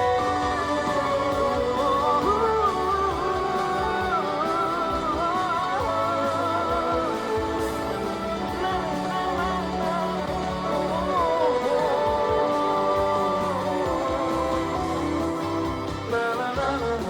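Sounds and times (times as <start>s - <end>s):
person singing: 0.0s - 17.0s
pop song with guitar and beat: 0.0s - 17.0s.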